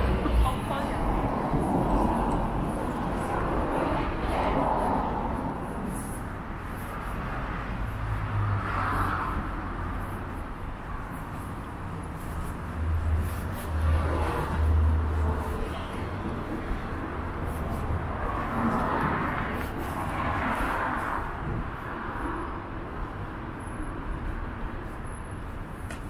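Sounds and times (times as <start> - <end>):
low traffic rumble: 0.0 - 26.0.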